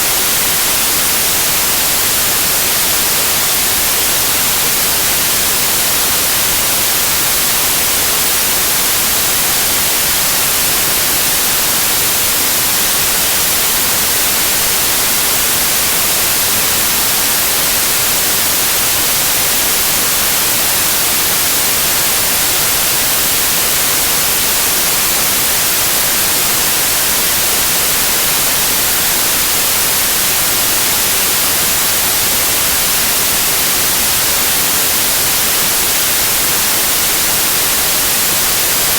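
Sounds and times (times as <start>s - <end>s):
static white noise hiss: 0.0s - 38.9s.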